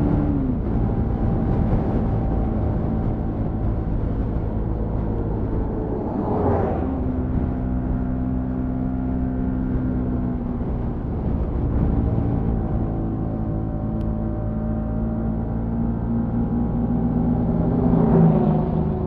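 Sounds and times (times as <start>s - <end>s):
vehicle passing by: 1.4s - 10.2s, 11.4s - 19.0s.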